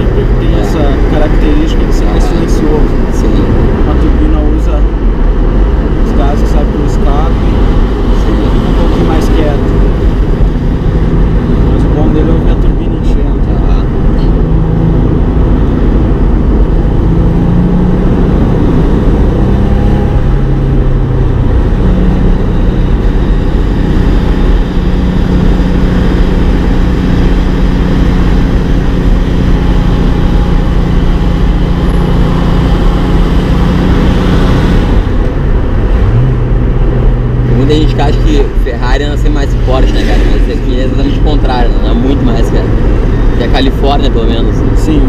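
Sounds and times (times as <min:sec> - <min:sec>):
wind noise: 0:00.0 - 0:44.8
car engine running: 0:00.0 - 0:45.0
road rumble: 0:00.0 - 0:45.0.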